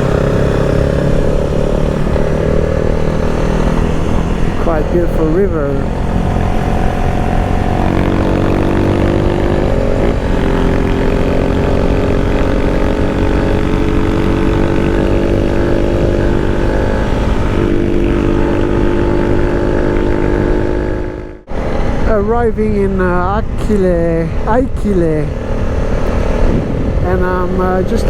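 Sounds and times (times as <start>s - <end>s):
motorcycle engine running: 0.0s - 28.0s
wind and road rumble: 0.0s - 28.0s.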